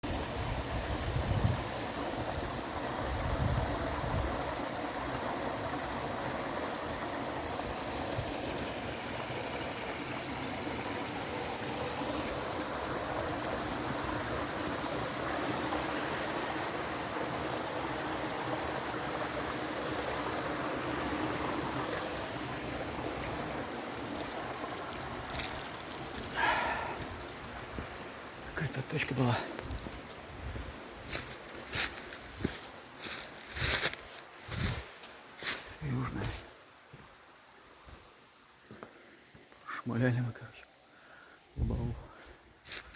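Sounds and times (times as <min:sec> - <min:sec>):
rushing water: 0:00.0 - 0:38.7.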